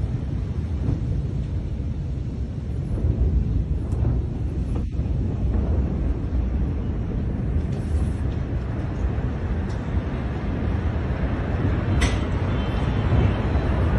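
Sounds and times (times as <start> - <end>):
low rumbling noise: 0.0 - 13.9.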